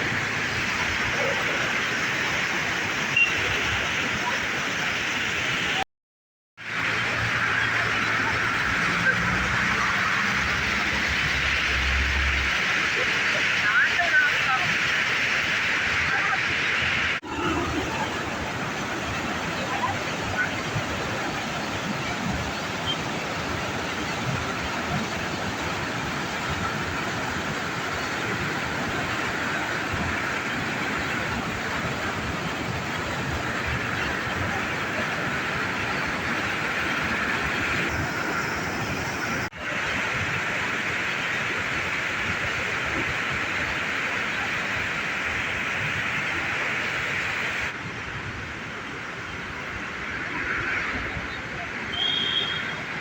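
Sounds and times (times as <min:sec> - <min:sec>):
water rushing through spill gates: 0:00.0 - 0:05.8, 0:06.6 - 0:53.0.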